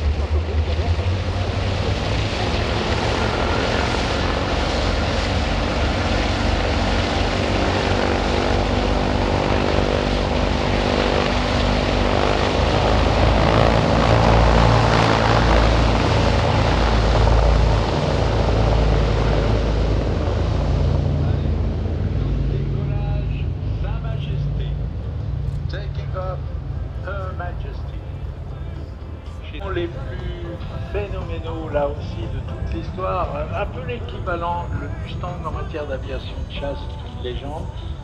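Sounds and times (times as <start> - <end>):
propeller aircraft engines running: 0.0 - 38.0.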